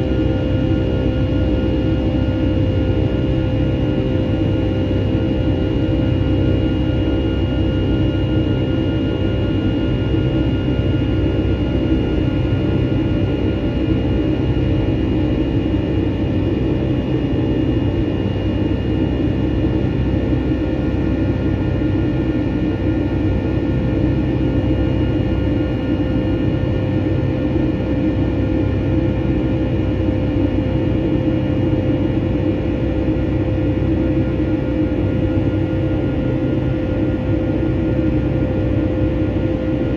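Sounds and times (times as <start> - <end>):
rumble of engine and airflow: 0.0 - 39.9.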